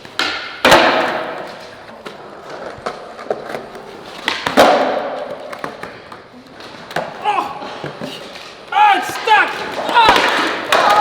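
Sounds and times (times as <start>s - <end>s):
skateboard hitting ground: 0.0s - 6.1s, 6.8s - 11.0s
skateboard wheels rolling: 0.0s - 11.0s.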